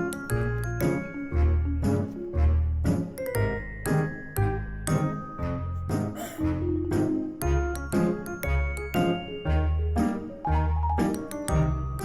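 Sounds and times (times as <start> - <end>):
light bouncy background music: 0.0 - 12.0.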